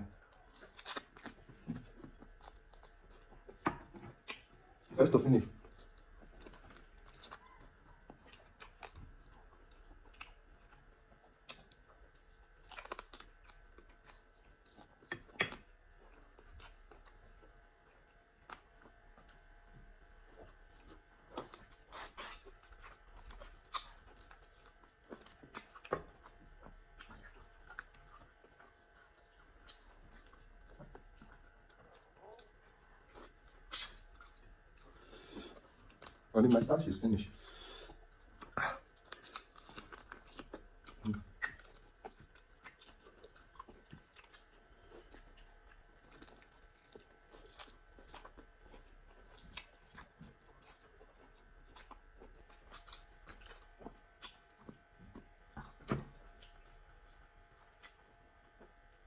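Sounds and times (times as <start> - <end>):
people chewing and eating: 0.0 - 59.0.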